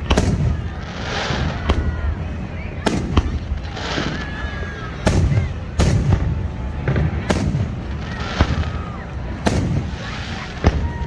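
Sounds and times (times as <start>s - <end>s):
fireworks bangs: 0.0s - 11.0s
low rumbling echoes: 0.0s - 11.0s.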